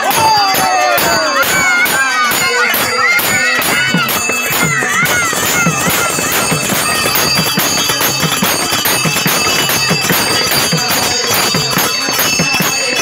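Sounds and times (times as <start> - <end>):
drum beating: 0.0 - 13.0
hand cymbals ringing: 0.0 - 13.0.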